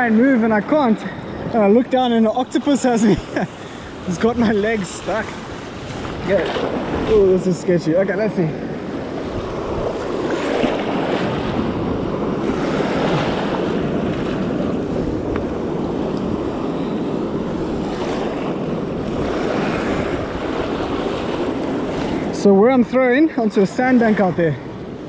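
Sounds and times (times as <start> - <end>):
sea swells washing: 0.0 - 25.0
wind buffeting microphone: 0.0 - 25.0.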